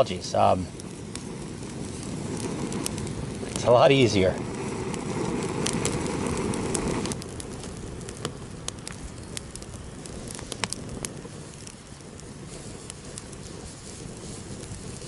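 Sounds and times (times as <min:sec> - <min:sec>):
campfire burning: 0:00.0 - 0:15.0
fire crackles and pops: 0:00.0 - 0:15.0.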